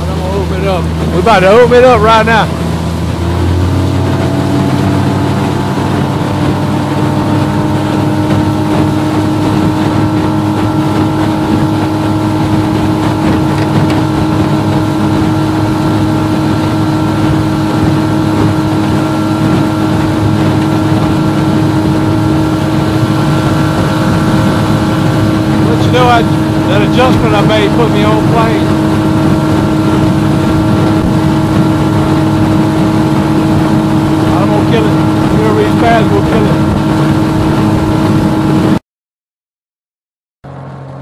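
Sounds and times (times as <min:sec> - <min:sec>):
outboard motor at full throttle: 0:00.0 - 0:38.8, 0:40.4 - 0:41.0.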